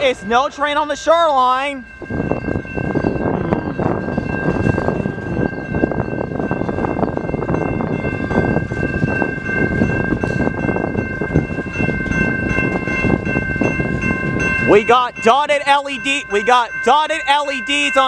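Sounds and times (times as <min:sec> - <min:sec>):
freight train wheels rumbling and clanking: 0:00.0 - 0:18.0.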